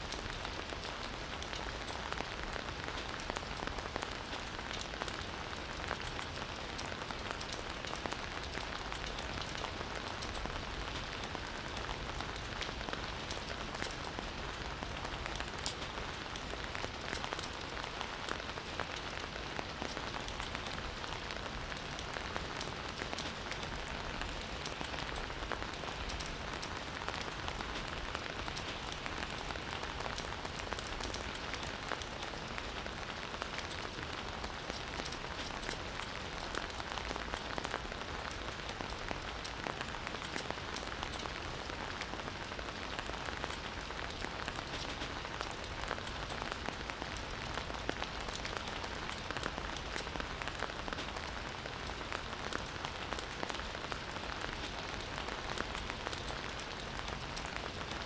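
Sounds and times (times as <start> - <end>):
campfire crackling and hissing: 0.0 - 58.0.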